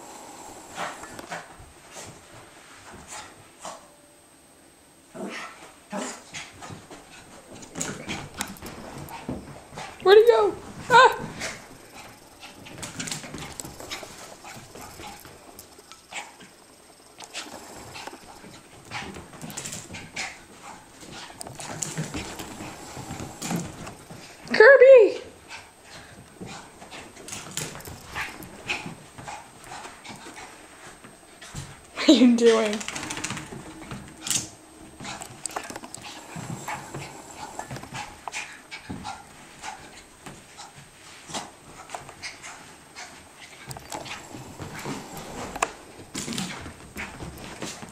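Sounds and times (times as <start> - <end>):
dog panting: 0.6 - 2.2, 6.0 - 24.6, 25.3 - 32.2, 32.8 - 47.9.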